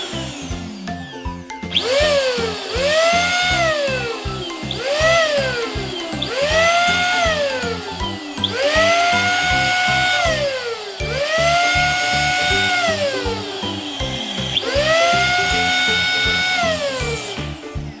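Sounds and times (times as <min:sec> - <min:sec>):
background music: 0:00.0 - 0:18.0
electric balloon inflator whine: 0:00.0 - 0:18.0.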